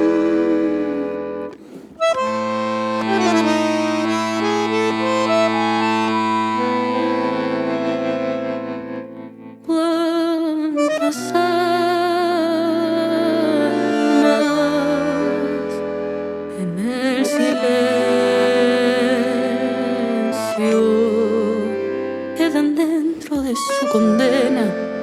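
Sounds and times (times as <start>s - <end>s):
bandoneon playing held chords: 0.0s - 9.6s, 10.8s - 25.0s.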